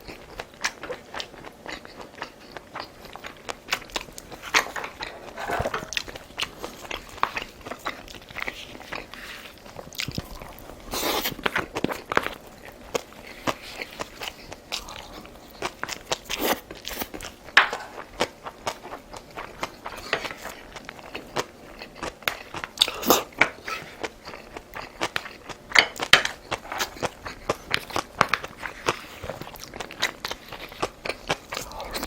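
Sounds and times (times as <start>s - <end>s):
person chewing crunchy food: 0.0s - 32.0s.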